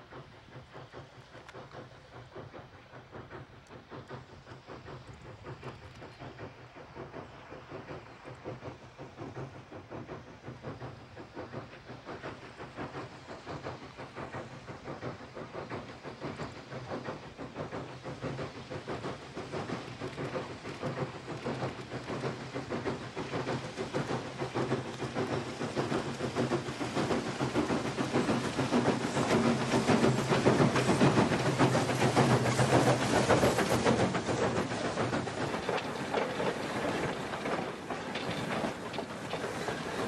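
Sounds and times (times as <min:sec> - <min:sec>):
steam locomotive chuffing: 0:00.0 - 0:40.0.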